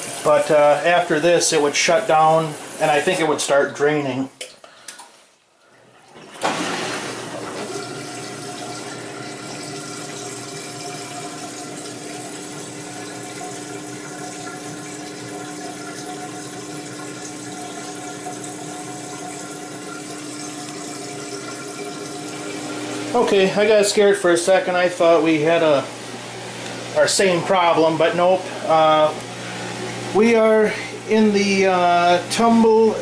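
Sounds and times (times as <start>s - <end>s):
washer pump hum: 0.0s - 33.0s.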